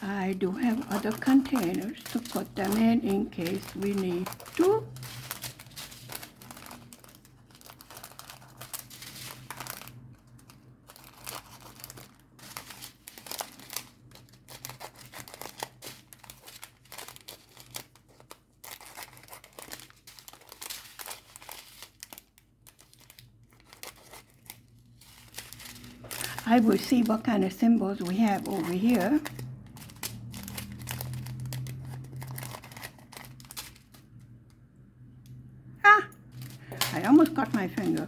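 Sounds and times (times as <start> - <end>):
plastic bags crinkling: 0.0 - 34.4, 36.2 - 38.0.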